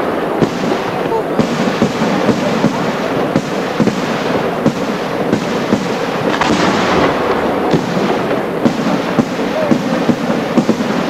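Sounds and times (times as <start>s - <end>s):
fireworks bangs and crackle: 0.0s - 11.0s.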